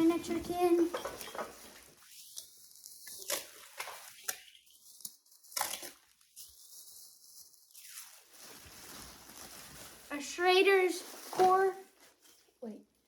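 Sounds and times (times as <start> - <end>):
wrappings rustling: 0.0 - 13.0.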